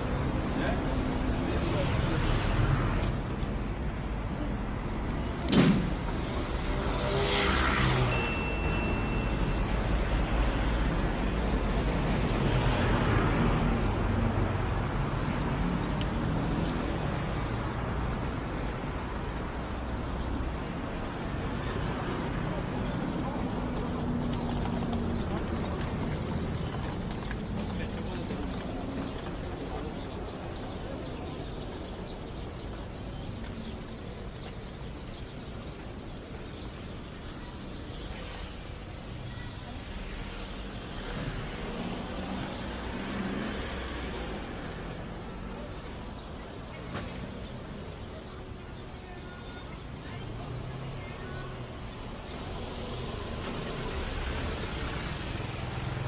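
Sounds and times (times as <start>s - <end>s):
busy street noise: 0.0s - 56.0s
road traffic: 0.0s - 56.0s.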